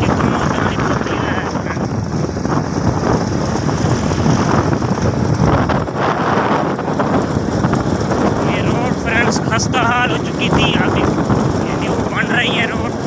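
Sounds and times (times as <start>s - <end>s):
motorcycle engine rumble: 0.0s - 13.0s
tyres on rough dirt road: 0.0s - 13.0s
wind buffeting microphone: 0.0s - 13.0s.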